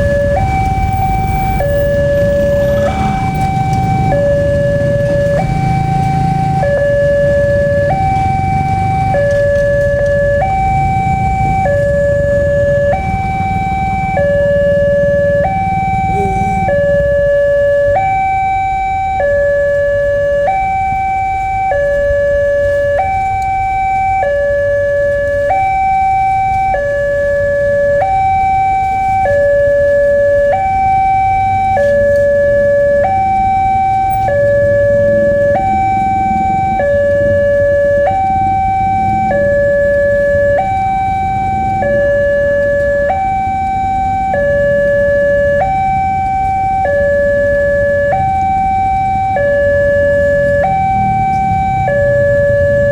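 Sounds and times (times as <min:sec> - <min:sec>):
two-tone crossing warning alarm: 0:00.0 - 0:52.9.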